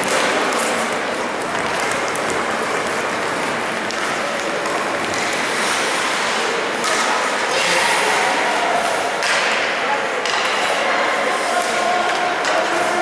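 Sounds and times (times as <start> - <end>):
crowd noise: 0.0 - 13.0.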